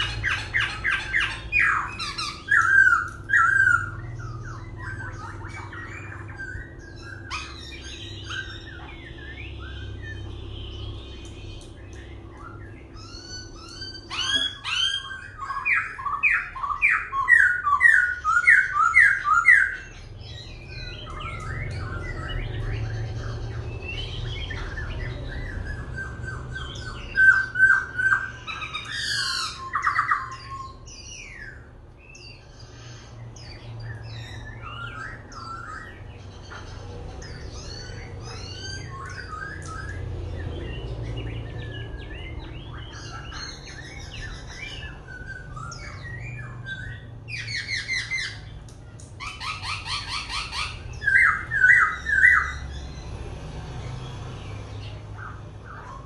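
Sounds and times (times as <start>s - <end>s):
bird singing varied phrases: 0.0s - 56.0s.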